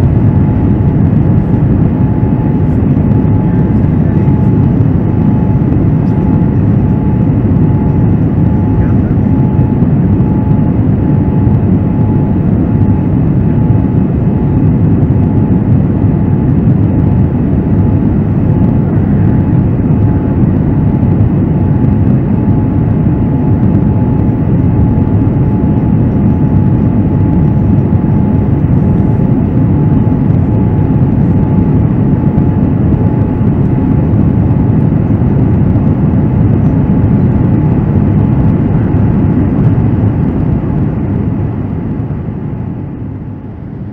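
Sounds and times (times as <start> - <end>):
airliner cabin engine and airflow noise: 0.0 - 43.9.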